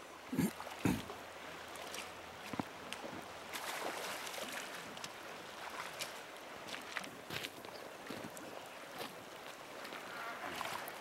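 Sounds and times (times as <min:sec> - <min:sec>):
river water over gravel: 0:00.0 - 0:11.0.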